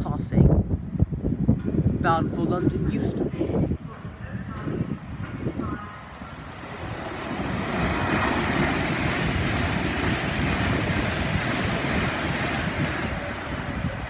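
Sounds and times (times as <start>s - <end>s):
electric train passing at speed: 1.2s - 14.0s.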